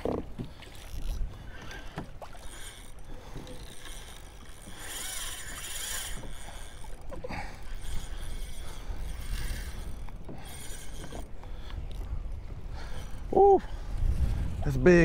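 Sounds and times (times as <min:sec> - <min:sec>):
water sloshing against kayak hull: 0:00.0 - 0:14.6
wind rumbling on microphone: 0:00.0 - 0:15.0.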